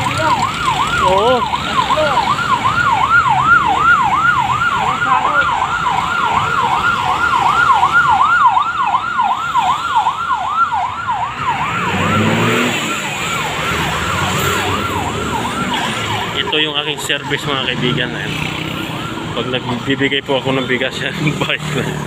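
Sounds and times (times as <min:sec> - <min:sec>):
electronic siren yelping: 0:00.0 - 0:20.9.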